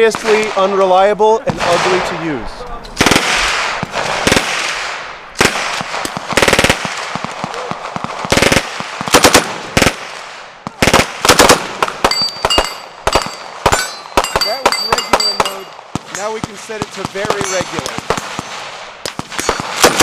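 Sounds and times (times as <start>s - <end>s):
rifle single shots: 0.0s - 16.2s, 17.0s - 20.0s.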